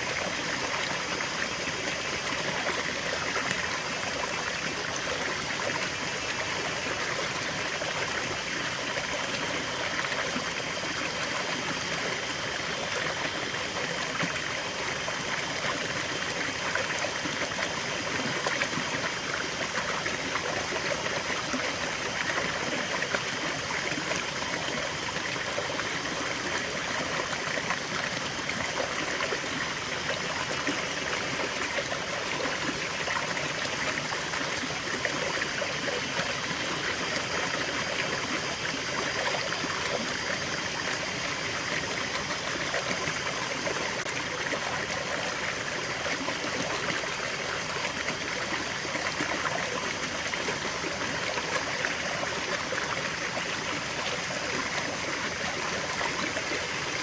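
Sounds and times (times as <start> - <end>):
small stream babbling: 0.0 - 57.0.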